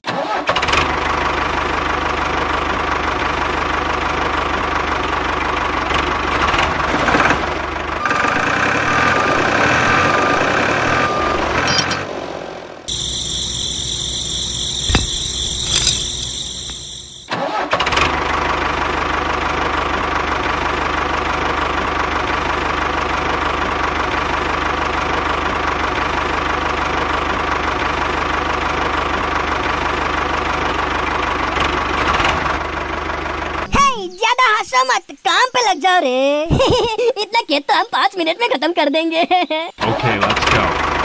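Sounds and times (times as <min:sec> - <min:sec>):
tractor engine starting and idling: 0:00.0 - 0:33.7, 0:39.8 - 0:41.0.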